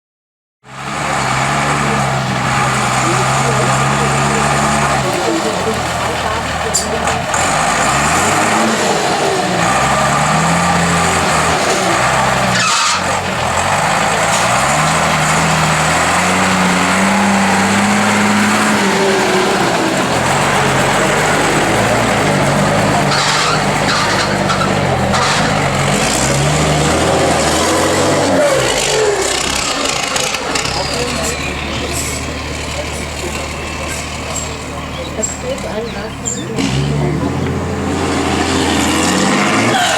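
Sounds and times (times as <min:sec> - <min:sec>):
truck diesel engine revving: 0:00.6 - 0:39.9.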